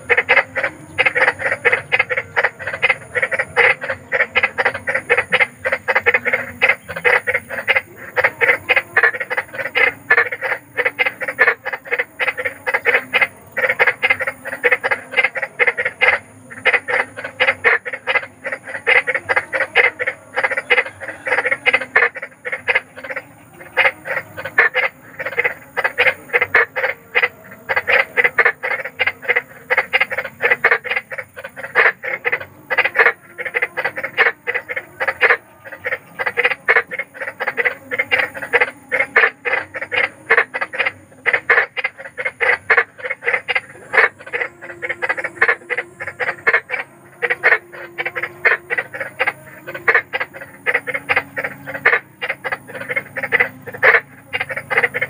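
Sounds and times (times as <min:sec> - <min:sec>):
frog croaking: 0:00.0 - 0:55.0.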